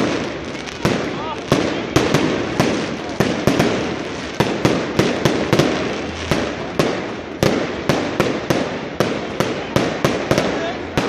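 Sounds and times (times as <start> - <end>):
distant fireworks crackling: 0.0 - 11.0
firecrackers banging: 0.0 - 11.0.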